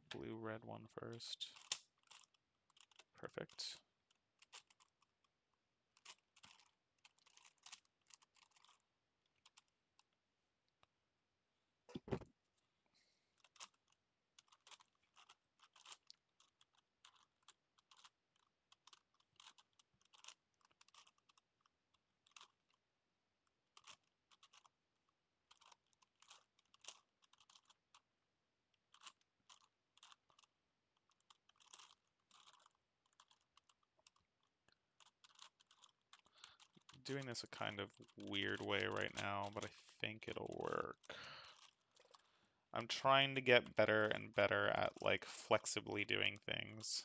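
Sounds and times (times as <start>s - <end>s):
puzzle layers clicking: 1.0s - 11.0s, 13.4s - 22.8s, 25.4s - 28.1s, 28.8s - 42.2s, 42.8s - 47.0s.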